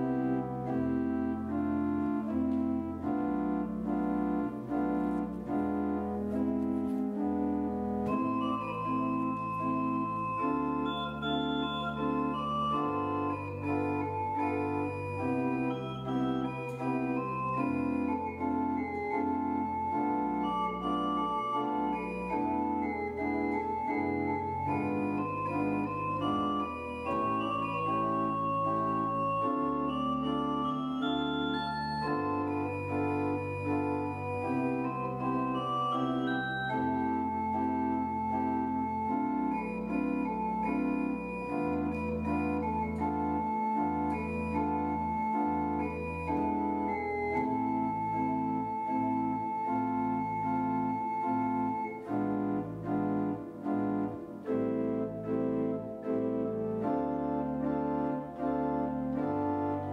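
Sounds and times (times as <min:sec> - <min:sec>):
church organ playing chords: 0:00.0 - 0:59.9.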